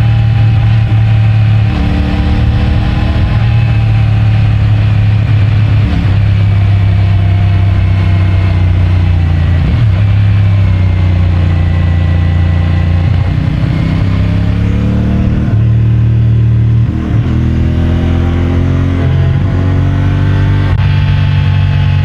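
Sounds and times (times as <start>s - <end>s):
motorcycle engine shifting gears: 0.0s - 22.0s.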